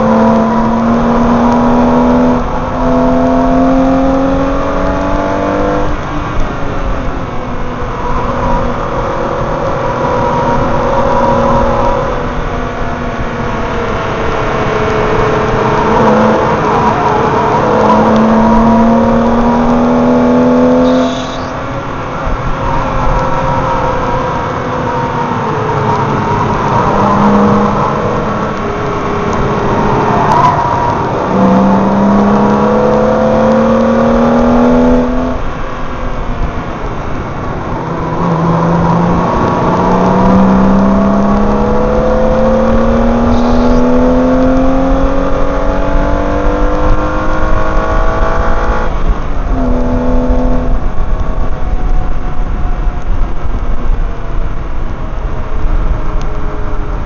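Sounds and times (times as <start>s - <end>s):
car engine accelerating hard: 0.0s - 57.0s
wind and tyre roar: 0.0s - 57.0s.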